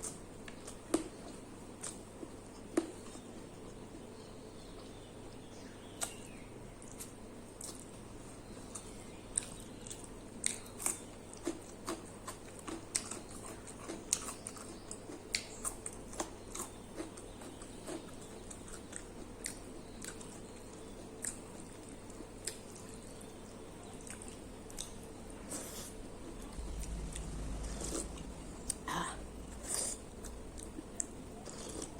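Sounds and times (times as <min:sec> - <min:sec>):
person chewing food: 0:04.8 - 0:23.3, 0:23.9 - 0:31.9.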